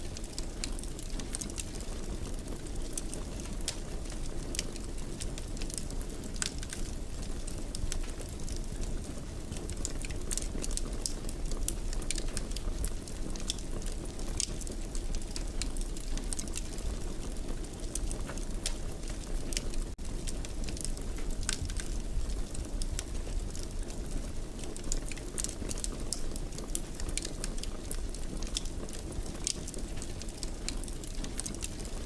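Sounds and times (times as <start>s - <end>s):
low rumble of burning: 0.0s - 32.0s
wood fire crackling and popping: 0.0s - 32.0s.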